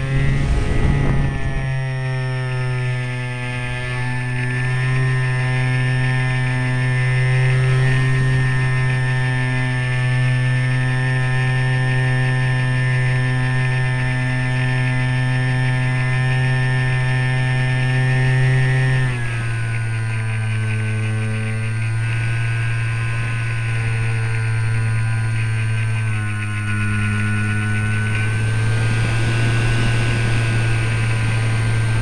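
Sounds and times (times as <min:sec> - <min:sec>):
model plane motor and propeller: 0:00.0 - 0:32.0.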